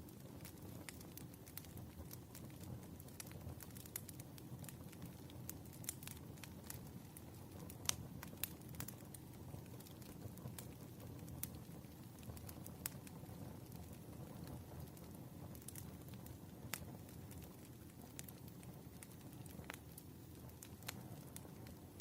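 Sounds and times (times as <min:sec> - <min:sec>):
firewood crackling: 0:00.0 - 0:22.0.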